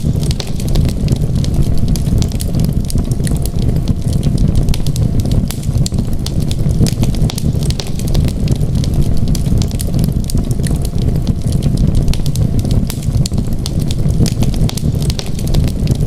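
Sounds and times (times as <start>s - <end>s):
fire crackling and popping: 0.0s - 16.0s
steady low rumble: 0.0s - 16.0s.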